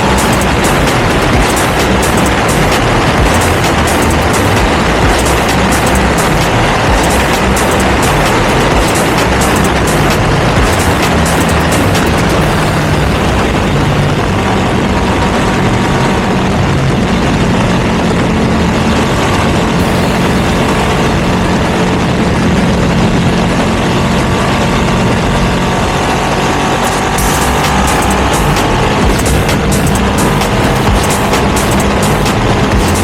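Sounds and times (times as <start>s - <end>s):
broad rushing noise: 0.0s - 33.0s
motorcycle engine running: 0.0s - 33.0s.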